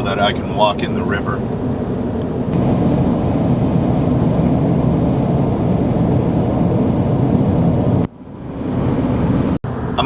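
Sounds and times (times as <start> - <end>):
car road noise from inside: 0.0 - 10.0.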